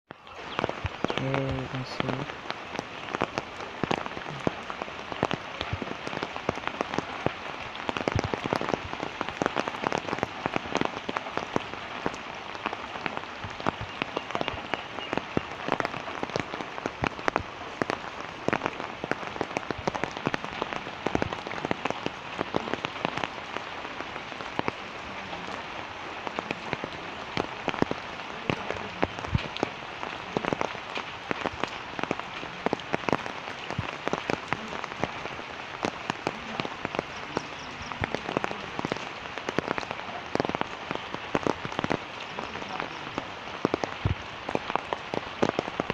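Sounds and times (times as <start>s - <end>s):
steady rain falling: 0.0s - 45.9s
sharp raindrop hits: 0.1s - 45.9s.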